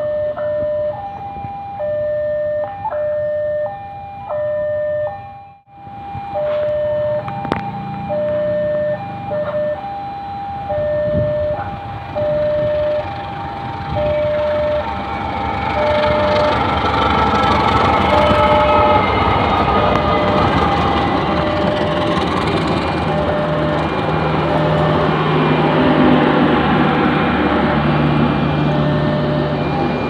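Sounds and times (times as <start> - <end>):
level crossing alarm two tones: 0.0 - 27.2, 27.8 - 30.0.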